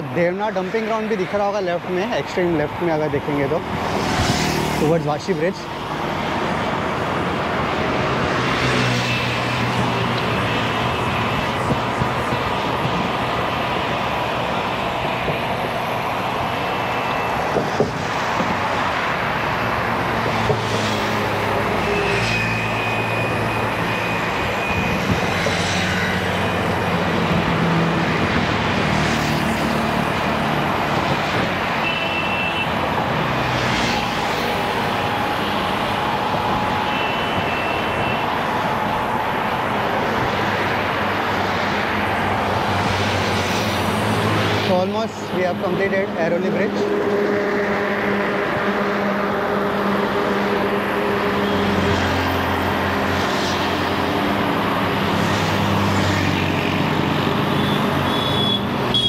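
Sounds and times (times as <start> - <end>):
car and truck traffic: 0.0 - 59.0.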